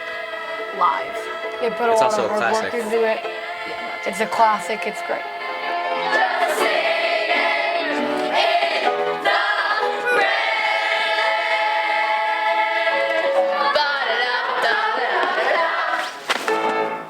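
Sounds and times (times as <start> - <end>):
chorus of young voices singing: 0.0 - 16.2.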